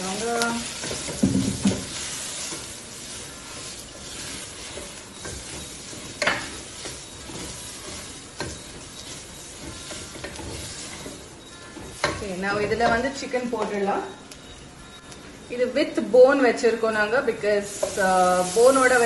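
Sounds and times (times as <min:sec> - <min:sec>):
masala sizzling in a pot: 0:00.0 - 0:14.3, 0:15.6 - 0:19.0.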